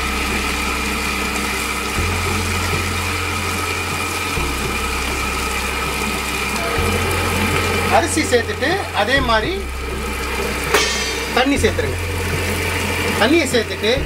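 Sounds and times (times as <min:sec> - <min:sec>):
wet grinder motor whining: 0:00.0 - 0:14.0.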